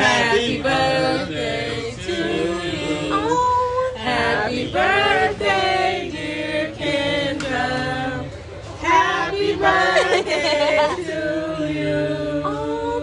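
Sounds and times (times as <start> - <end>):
group singing a birthday song: 0.0 - 13.0.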